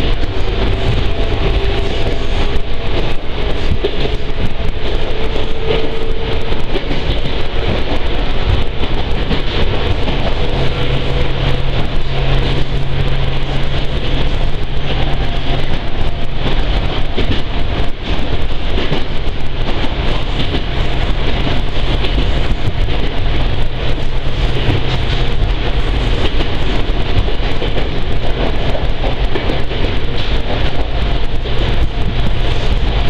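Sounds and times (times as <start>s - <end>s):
train wheels and motors rumbling: 0.0s - 33.0s.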